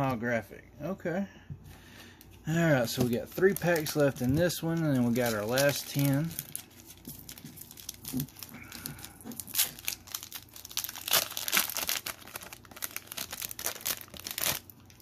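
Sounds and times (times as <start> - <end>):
foil wrapper crinkling and tearing: 2.8 - 15.0.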